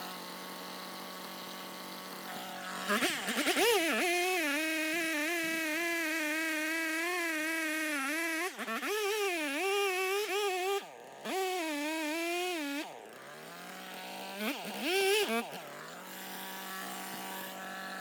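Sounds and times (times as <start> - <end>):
chainsaw cutting through log: 0.0 - 18.0.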